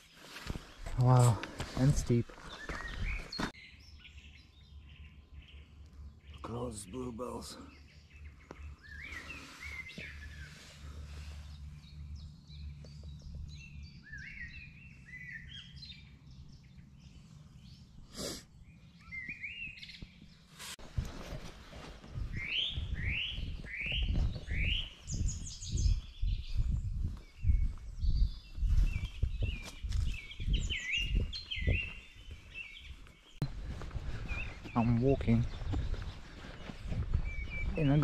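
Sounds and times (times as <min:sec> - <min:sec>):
songbirds singing and chirping: 0:00.0 - 0:38.0.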